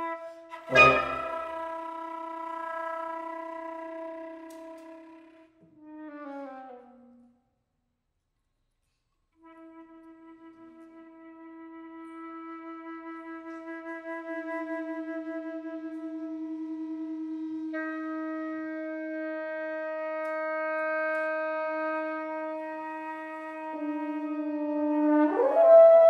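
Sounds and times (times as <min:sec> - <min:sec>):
woodwinds holding long notes: 0:00.0 - 0:05.5, 0:09.4 - 0:26.0.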